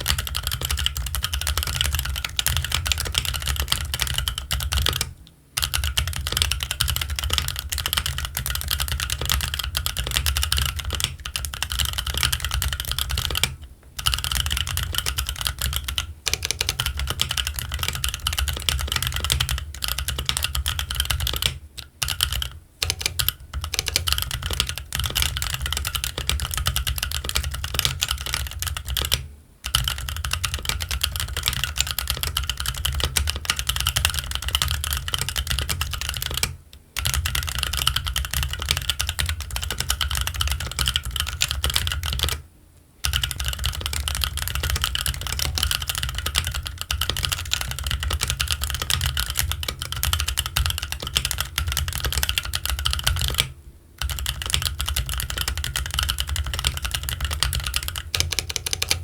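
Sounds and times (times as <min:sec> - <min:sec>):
fast mechanical keyboard typing: 0:00.0 - 0:42.4, 0:43.0 - 0:59.0.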